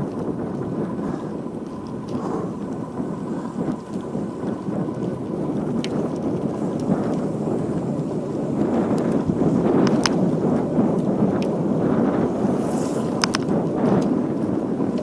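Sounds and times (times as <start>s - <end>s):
bike tyre noise on paving: 0.0s - 15.0s
wind rushing over microphone: 0.0s - 15.0s.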